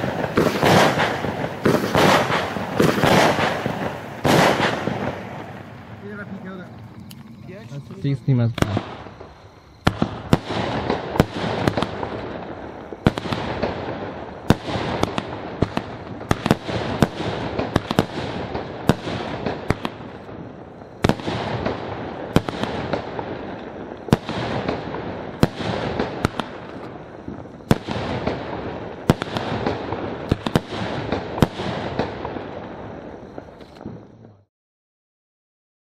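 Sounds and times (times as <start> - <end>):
continuous firework hiss: 0.0 - 34.5
firework reports: 0.0 - 34.5.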